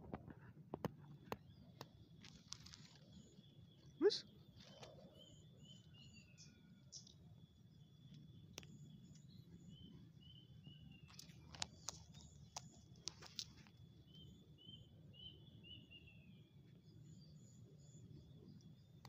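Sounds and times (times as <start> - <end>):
small bird chirping: 0.4 - 19.0.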